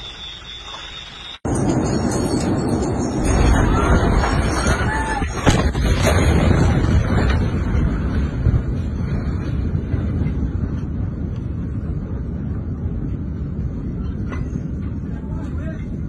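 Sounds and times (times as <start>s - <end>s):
deep explosion rumble: 1.5s - 16.0s.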